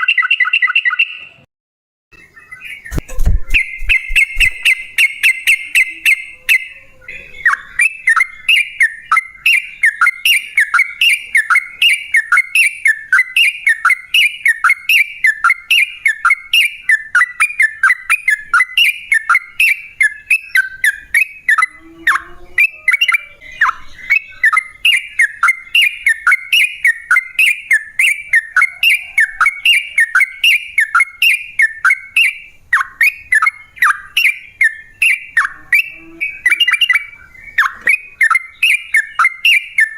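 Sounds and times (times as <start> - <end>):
bird singing whistled notes: 2.2 - 39.9.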